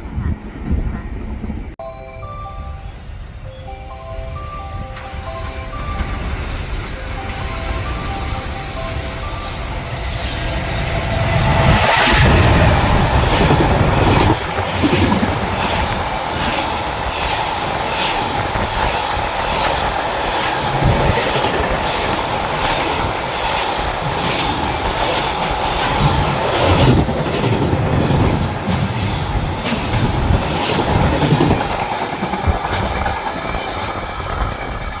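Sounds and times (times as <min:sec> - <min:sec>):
train whine: 0:00.0 - 0:35.0
train wheels clickety-clack: 0:06.0 - 0:35.0.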